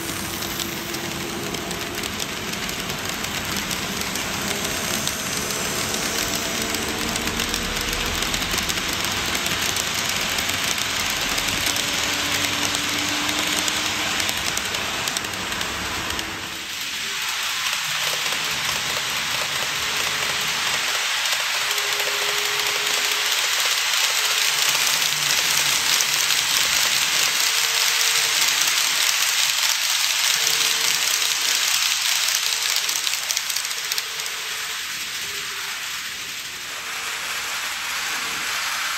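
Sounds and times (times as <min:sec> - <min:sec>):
hiss of wheels on rail: 0:00.0 - 0:38.9.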